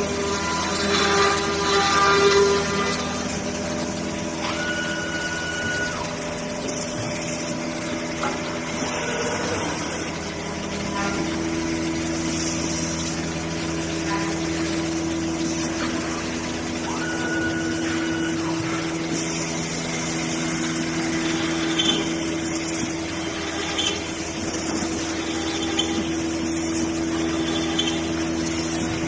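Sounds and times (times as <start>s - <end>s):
rising machine whine: 0.0s - 7.1s, 7.7s - 29.0s
cnc router machine hum: 0.0s - 29.0s.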